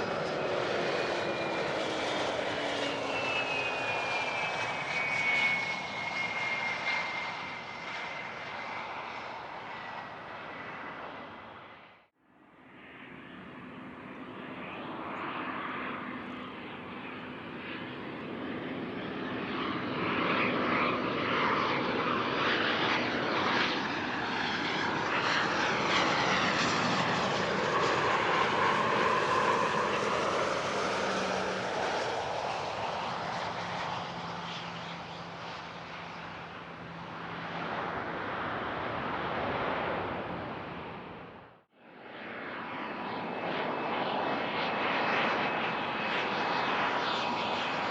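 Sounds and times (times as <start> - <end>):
jet passing on runway: 0.0 - 12.0, 12.7 - 47.9
jet engine whine: 0.0 - 47.9.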